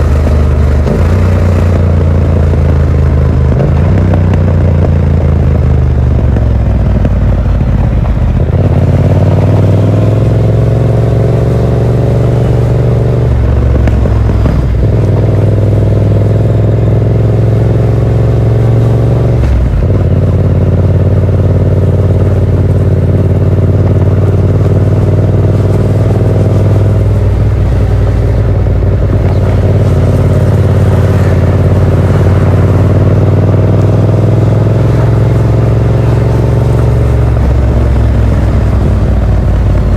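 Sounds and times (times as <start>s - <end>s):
gear changes: 0.0s - 17.1s, 17.7s - 39.9s
motorcycle engine riding: 0.0s - 39.9s.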